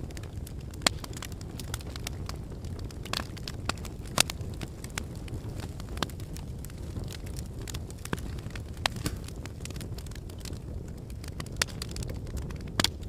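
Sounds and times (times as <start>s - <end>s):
fire rumbling in a fireplace: 0.0s - 13.0s
wood crackling and popping: 0.0s - 13.0s.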